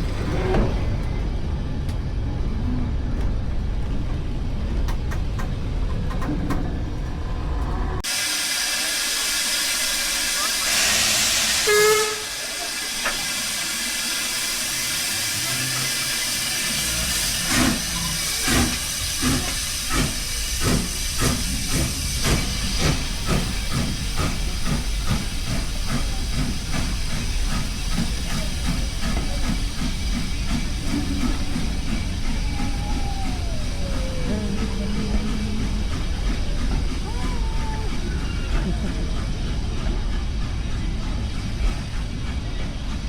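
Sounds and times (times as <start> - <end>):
steam hissing: 8.0 - 43.0.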